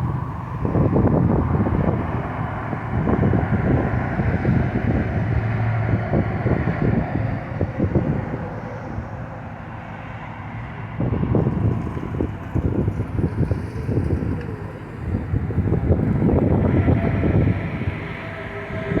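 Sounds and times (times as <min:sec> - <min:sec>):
vehicle engine rumbling: 0:00.0 - 0:19.0
wind buffeting microphone: 0:00.0 - 0:19.0.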